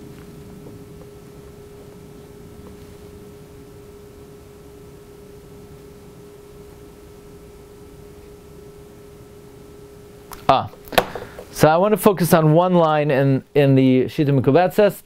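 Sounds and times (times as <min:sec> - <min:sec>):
low background hiss: 0:00.0 - 0:15.0
steady hum: 0:00.0 - 0:15.0.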